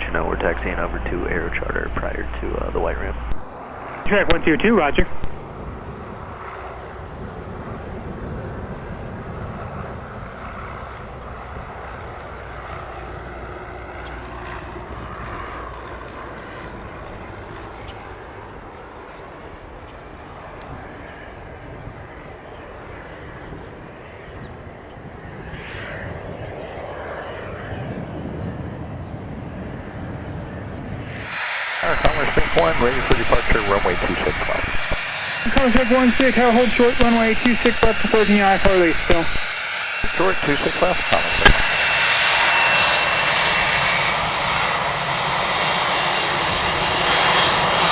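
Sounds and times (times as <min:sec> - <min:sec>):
propeller plane engine running: 0:00.0 - 0:47.9.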